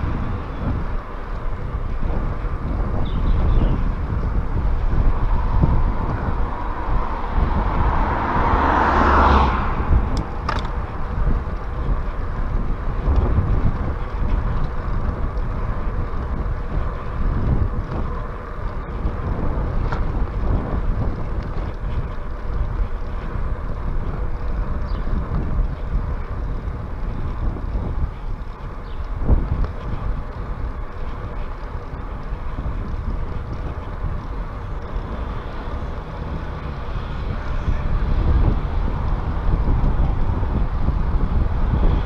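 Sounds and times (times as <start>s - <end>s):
low road rumble: 0.0s - 42.0s
wind buffeting microphone: 0.0s - 42.0s.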